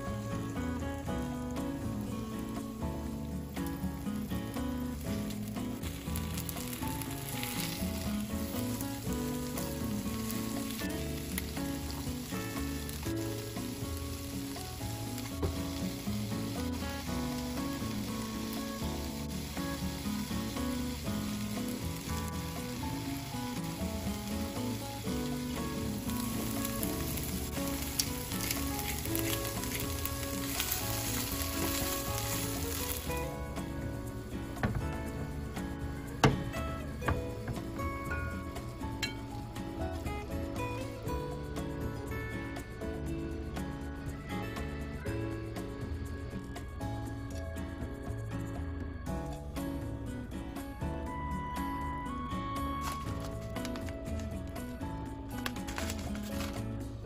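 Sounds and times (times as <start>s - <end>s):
chicken sizzling in a frying pan: 0.0s - 48.2s, 51.1s - 57.0s
small crackles of frying: 0.0s - 57.0s.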